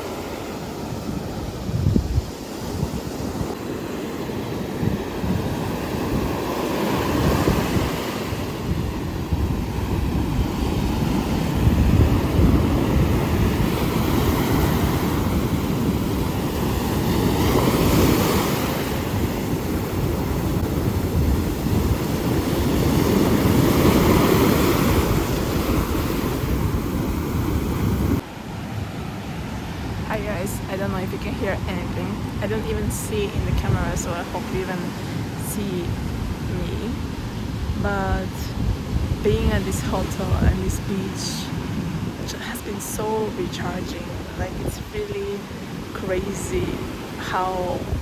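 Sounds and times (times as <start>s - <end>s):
sea waves washing onto beach: 0.0s - 48.0s
wind buffeting microphone: 0.0s - 48.0s.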